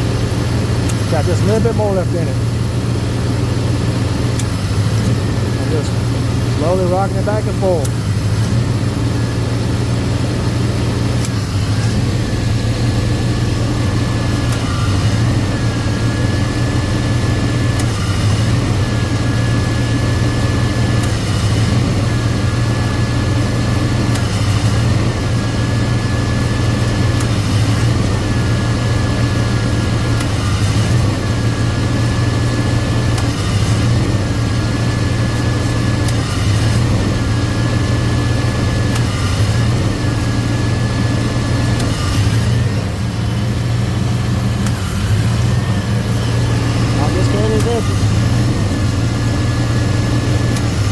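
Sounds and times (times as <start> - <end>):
car engine idling: 0.0 - 50.9
compressor whine: 0.0 - 50.9.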